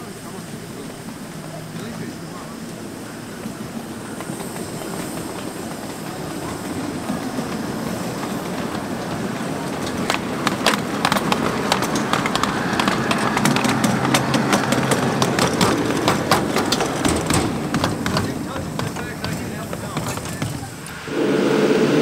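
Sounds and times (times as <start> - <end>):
miniature train rolling on track: 0.0 - 21.1
wheels clicking over rail joints: 0.0 - 21.1.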